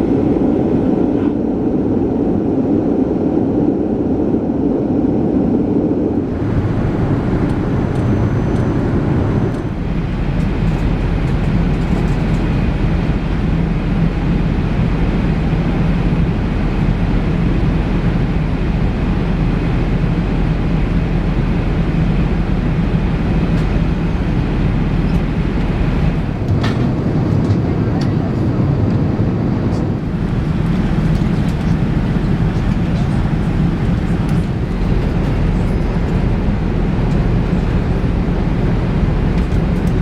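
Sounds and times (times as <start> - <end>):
airliner cabin engine noise: 0.0 - 40.0.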